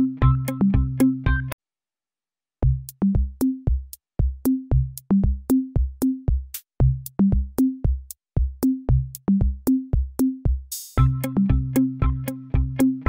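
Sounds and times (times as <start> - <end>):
electronic music with drum-machine beat: 0.0 - 1.6, 2.6 - 13.0.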